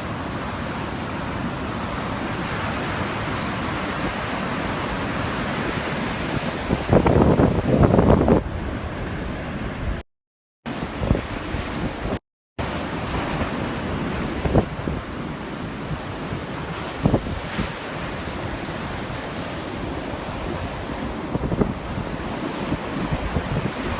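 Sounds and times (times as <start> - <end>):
surf breaking on shore: 0.0 - 10.0, 10.7 - 23.9
wind buffeting microphone: 3.6 - 10.0, 10.7 - 23.9.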